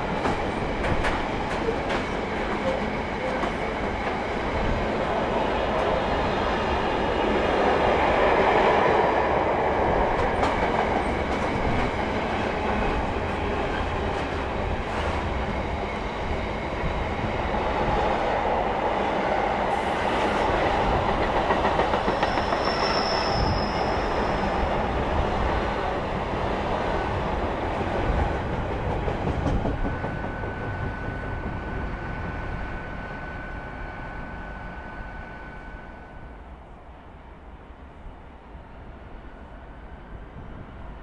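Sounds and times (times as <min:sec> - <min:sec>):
freight train rolling by: 0:00.0 - 0:41.0.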